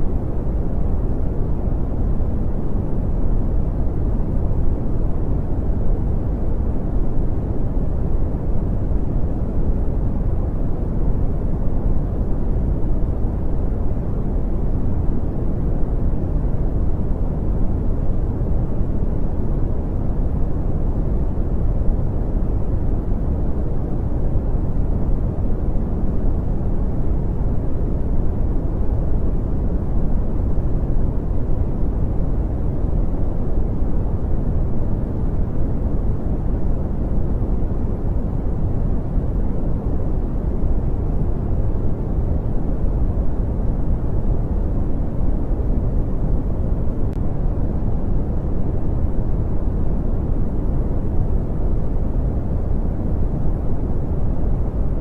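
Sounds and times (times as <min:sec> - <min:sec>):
brown noise rumbling hiss: 0:00.0 - 0:55.0.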